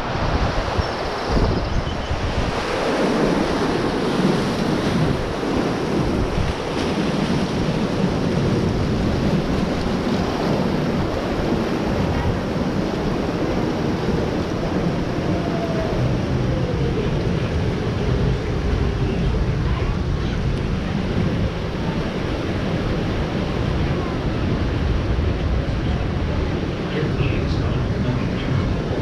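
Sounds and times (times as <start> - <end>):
rushing churning water: 0.0 - 29.0
wind buffeting microphone: 0.0 - 29.0.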